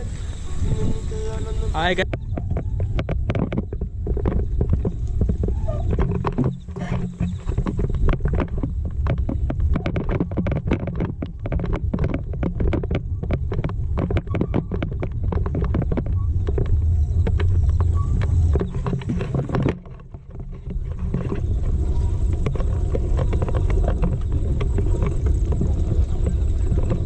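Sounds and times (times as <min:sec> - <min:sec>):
bike clicking and rattling: 0:00.0 - 0:27.0
wind buffeting microphone: 0:00.0 - 0:27.0.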